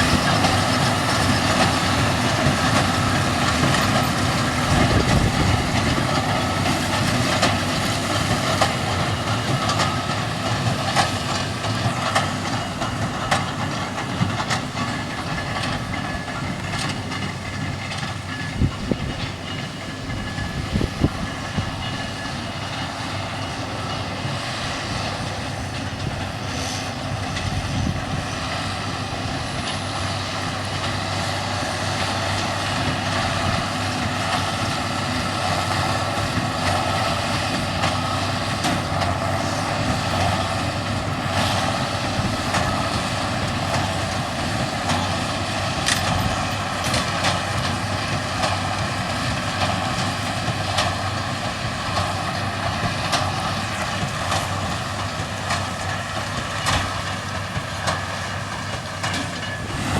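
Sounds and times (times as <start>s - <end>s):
vehicle engine drone: 0.0s - 59.9s.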